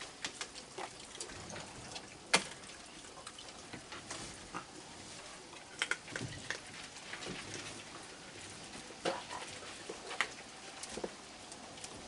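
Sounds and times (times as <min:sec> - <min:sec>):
rain hiss and patter: 0:00.0 - 0:12.0.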